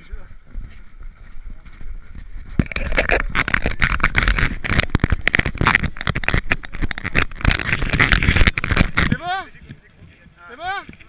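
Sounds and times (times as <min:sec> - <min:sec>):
footsteps crunching on snow: 0:00.0 - 0:11.0
body-worn camera rubbing and knocking: 0:00.9 - 0:11.0.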